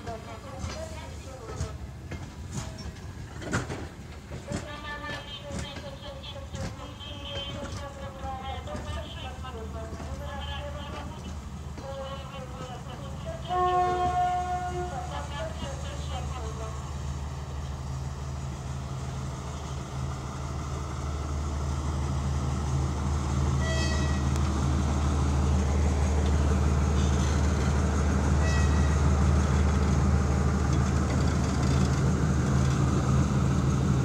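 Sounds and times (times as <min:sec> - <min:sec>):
diesel locomotive engine droning: 0:00.0 - 0:34.0.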